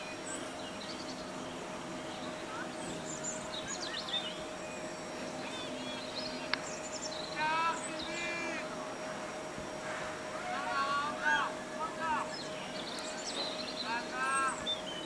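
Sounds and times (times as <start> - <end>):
birds chirping: 0.0 - 15.0
faint steady hum: 0.0 - 15.0.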